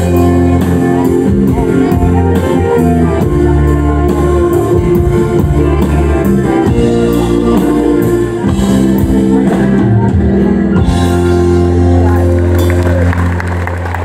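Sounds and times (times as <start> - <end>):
country band playing: 0.0 - 14.0.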